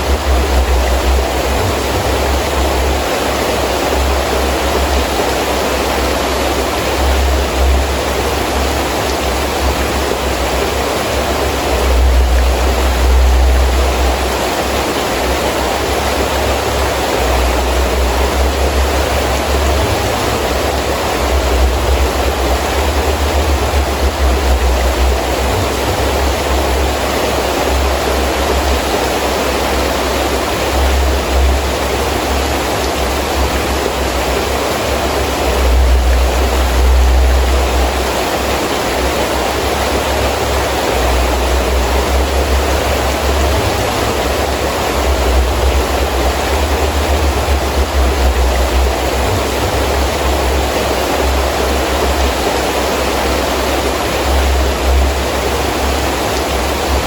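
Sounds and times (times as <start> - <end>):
heavy rain falling: 0.0 - 57.0
wind gusting in low rumble: 0.0 - 57.0.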